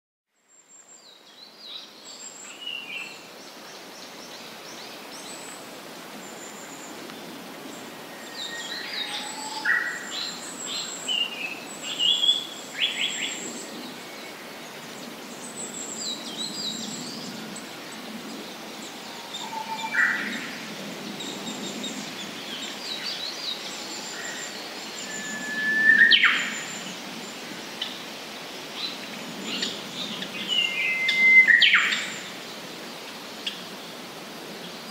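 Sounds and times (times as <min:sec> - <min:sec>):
steady background hiss: 0:00.4 - 0:34.9.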